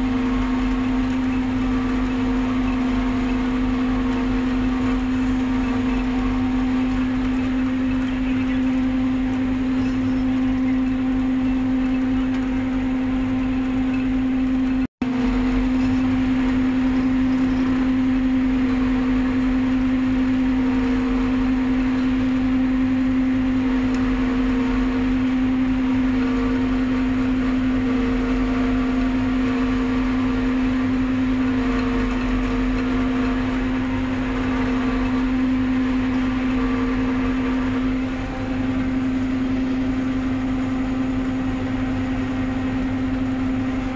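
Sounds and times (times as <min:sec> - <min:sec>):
harvester machine hum: 0:00.0 - 0:43.9
tractor engine running under load: 0:00.0 - 0:43.9.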